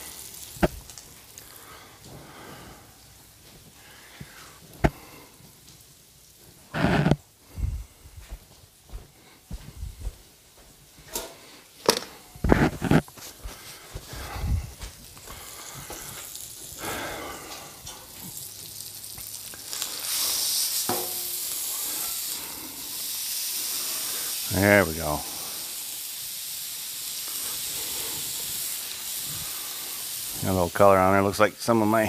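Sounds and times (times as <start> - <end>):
steak sizzling on griddle: 0.0 - 7.6, 10.4 - 32.0.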